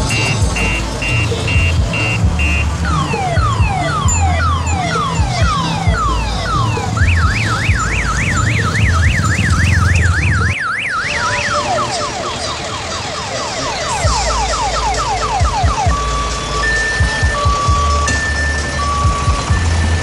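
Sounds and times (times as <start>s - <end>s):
electronic siren: 0.0s - 20.0s.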